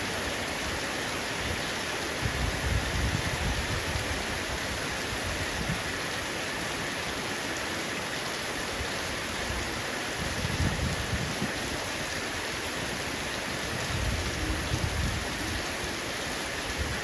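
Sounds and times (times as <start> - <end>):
heavy rain on a roof: 0.0 - 17.0.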